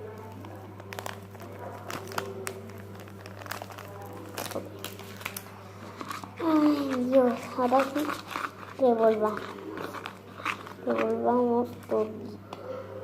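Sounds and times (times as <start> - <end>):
spoon stirring sticky slime: 0.0 - 12.4.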